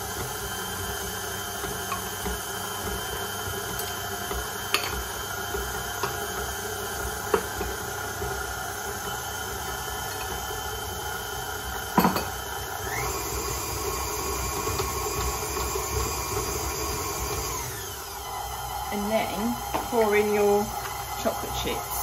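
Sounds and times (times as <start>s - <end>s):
stand mixer running: 0.0s - 22.0s.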